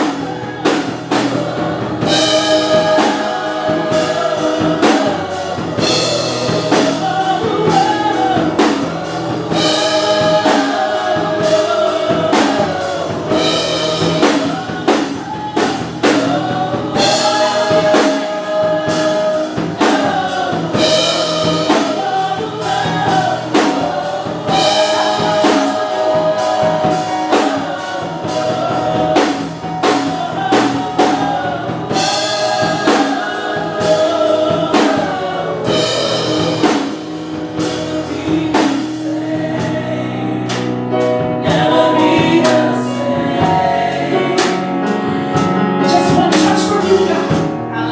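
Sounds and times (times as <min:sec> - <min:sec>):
band accompaniment: 0:00.0 - 0:47.9
drum kit beat: 0:00.0 - 0:47.9
gospel choir singing: 0:00.0 - 0:47.9.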